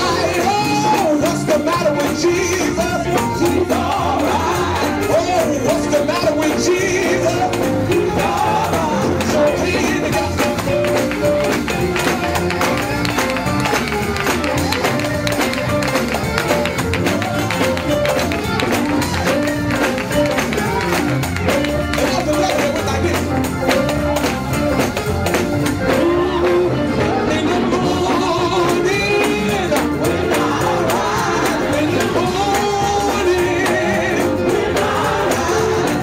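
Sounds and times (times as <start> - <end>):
fast percussive beat: 0.0 - 36.0
gospel melody line: 0.0 - 36.0.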